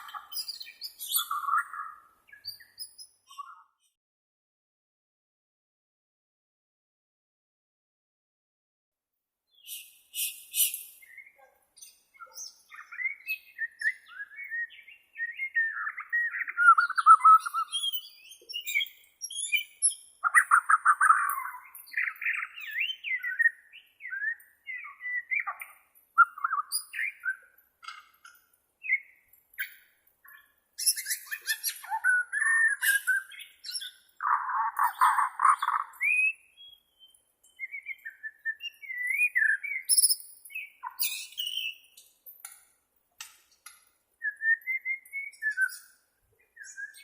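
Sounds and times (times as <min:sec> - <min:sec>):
bird singing varied song: 0:00.0 - 0:04.0, 0:09.4 - 0:47.0.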